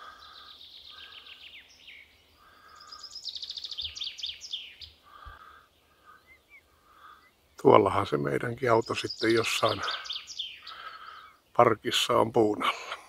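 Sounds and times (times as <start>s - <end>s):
small songbird singing trills: 0.0s - 11.6s.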